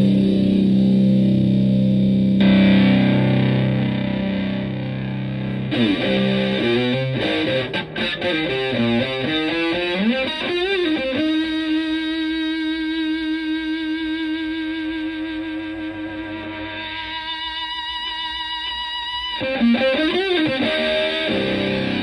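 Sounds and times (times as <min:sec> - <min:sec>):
fuzz electric guitar: 0:00.0 - 0:22.0.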